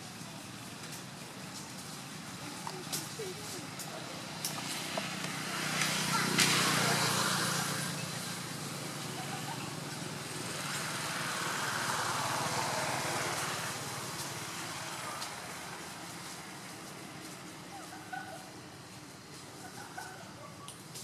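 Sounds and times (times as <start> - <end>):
vehicle engines passing: 0.0 - 21.0.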